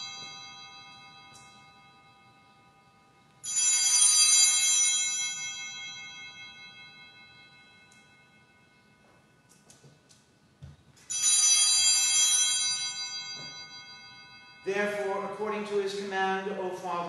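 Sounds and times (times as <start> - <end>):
small altar bells jangling: 0.0 - 10.4, 11.0 - 15.8.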